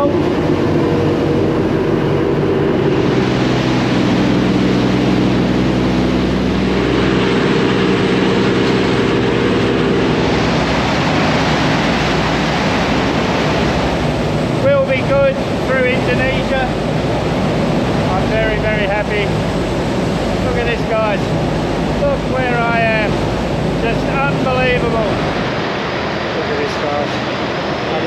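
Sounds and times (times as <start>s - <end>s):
churning wake water: 0.0s - 28.0s
ferry engines droning: 0.0s - 28.0s.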